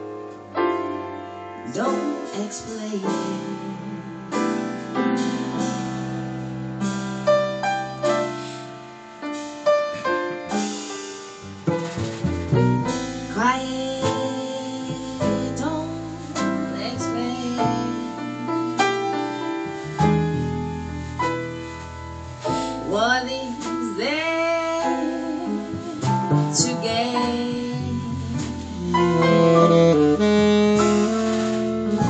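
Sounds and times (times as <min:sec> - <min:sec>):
low bass notes: 0:00.0 - 0:32.0
piano: 0:00.0 - 0:32.0
sliding melody line: 0:01.7 - 0:32.0.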